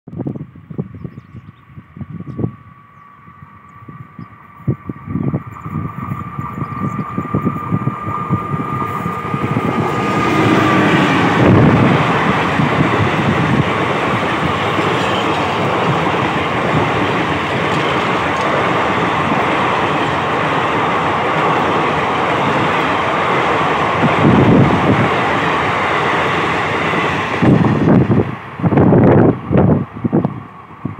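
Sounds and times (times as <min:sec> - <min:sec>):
wheels rushing on rail: 0:00.1 - 0:30.9
wind buffeting microphone: 0:00.1 - 0:30.9
locomotive high tone: 0:00.8 - 0:30.9.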